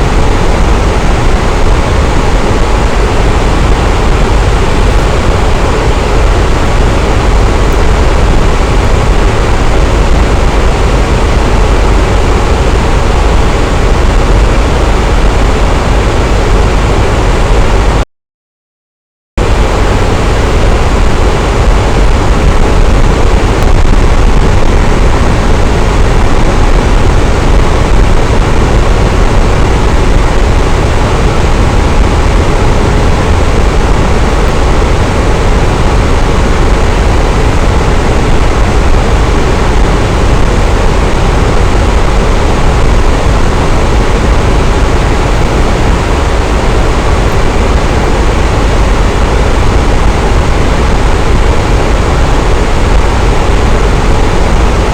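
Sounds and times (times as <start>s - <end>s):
electric fan running: 0.0s - 18.0s, 19.4s - 54.9s.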